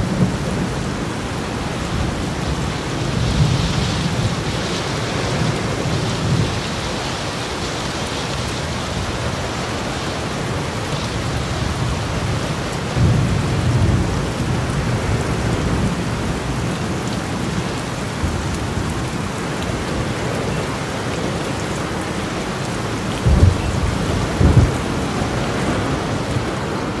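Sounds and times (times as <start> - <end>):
heavy rain downpour: 0.0 - 27.0
thunder rumbling: 0.0 - 27.0.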